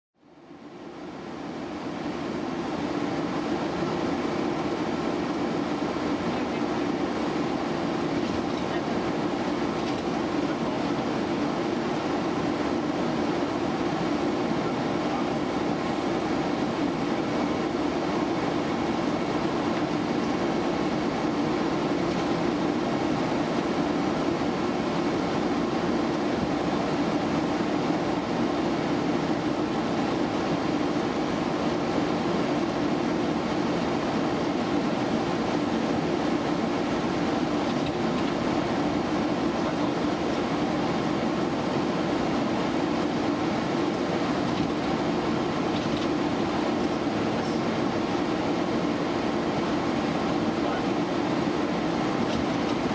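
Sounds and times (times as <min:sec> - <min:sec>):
airflow and air conditioning rush: 0:00.2 - 0:52.9.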